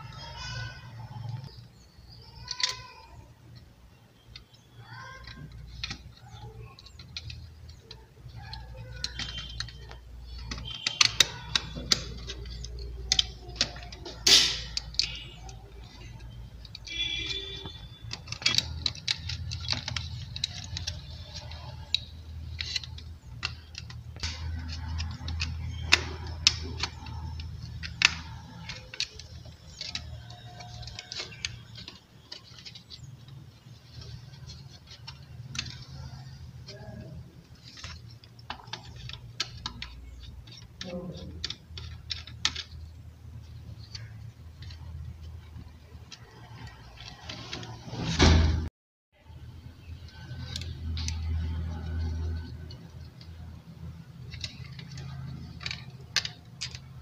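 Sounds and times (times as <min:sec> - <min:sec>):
plastic board clicks and rattles: 0:02.2 - 0:47.8, 0:49.9 - 0:57.0.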